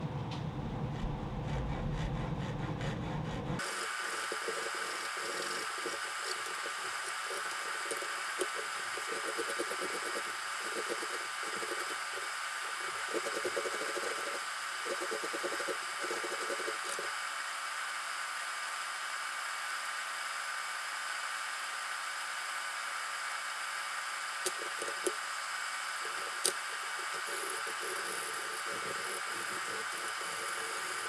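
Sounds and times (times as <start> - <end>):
shop machinery whirring: 0.0 - 31.0.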